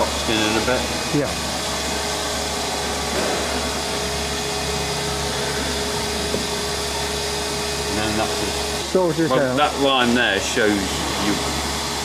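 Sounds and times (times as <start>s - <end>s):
fan-driven machine humming: 0.0s - 12.0s.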